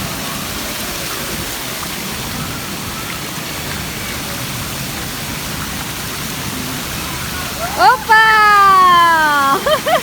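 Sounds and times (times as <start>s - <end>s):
water splashing from fountains: 0.0s - 10.0s.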